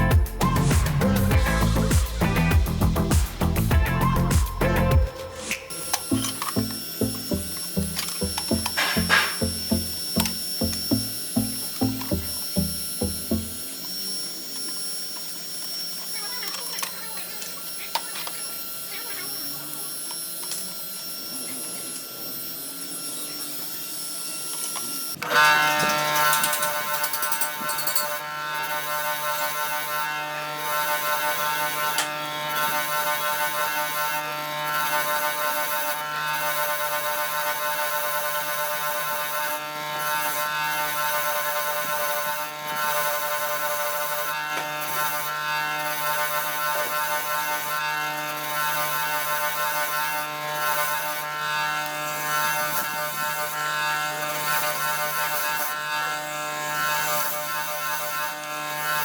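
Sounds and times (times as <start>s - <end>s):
machine motor buzzing hum: 0.0s - 59.0s.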